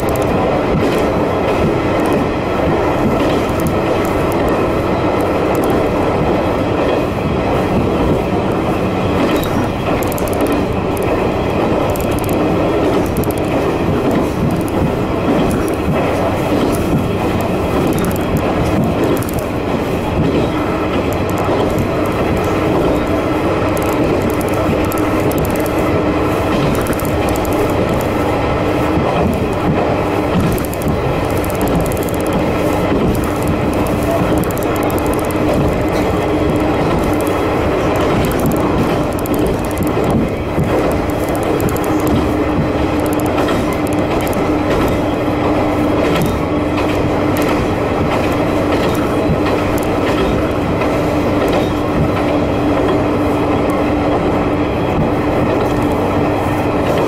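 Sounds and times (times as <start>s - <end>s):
light clicks from track: 0.0s - 2.3s, 2.9s - 6.0s, 9.2s - 28.2s, 28.9s - 54.3s
railcar engine and wheel rumble: 0.0s - 57.0s.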